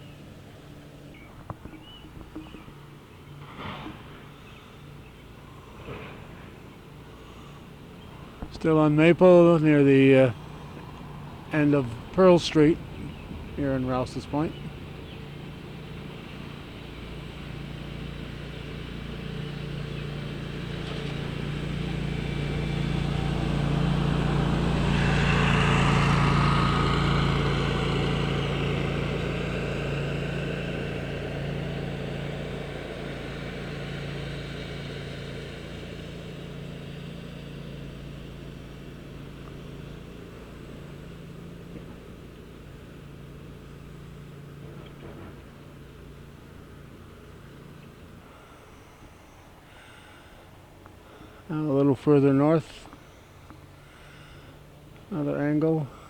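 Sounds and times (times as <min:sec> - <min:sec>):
low engine hum: 0:00.0 - 0:56.0
road vehicle passing by: 0:00.0 - 0:56.0.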